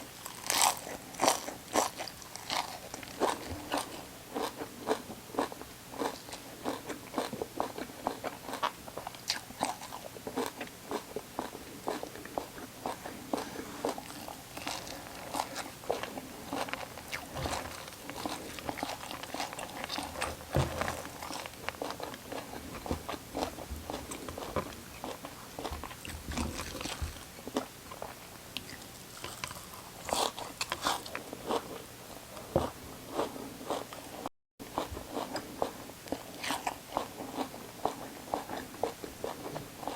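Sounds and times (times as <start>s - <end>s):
chewing raw vegetables: 0.0s - 39.9s.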